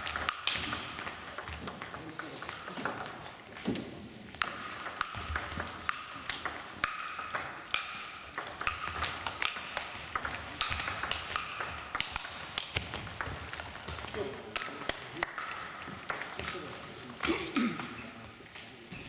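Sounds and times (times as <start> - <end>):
table tennis ball clicking: 0.0 - 3.8, 4.4 - 16.8.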